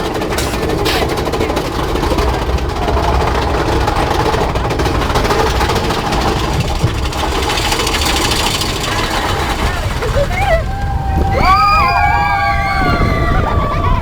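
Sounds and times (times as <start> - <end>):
roller coaster running on track: 0.0 - 14.0.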